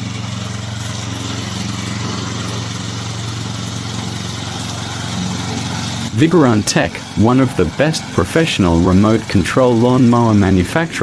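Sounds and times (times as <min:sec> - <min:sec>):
mower gasoline engine running: 0:00.0 - 0:11.0.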